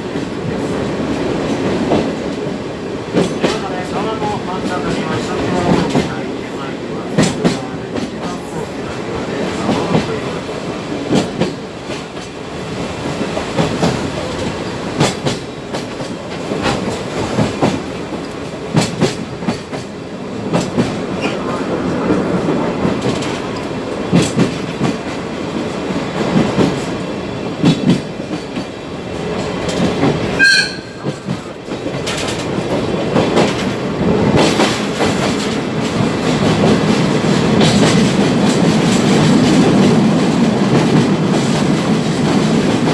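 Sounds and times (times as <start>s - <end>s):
train rumbling along track: 0.0s - 42.9s.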